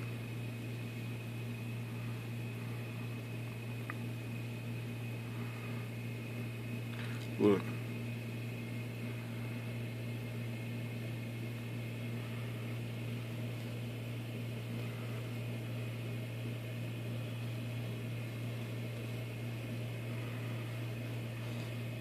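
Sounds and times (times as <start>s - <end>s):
constant hiss: 0.0s - 22.0s
machine humming: 0.0s - 22.0s.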